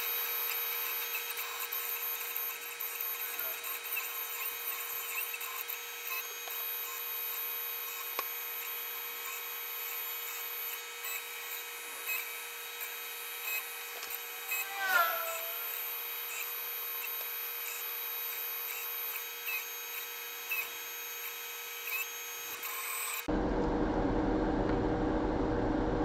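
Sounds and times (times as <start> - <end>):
stepper motors whining: 0.0 - 23.3.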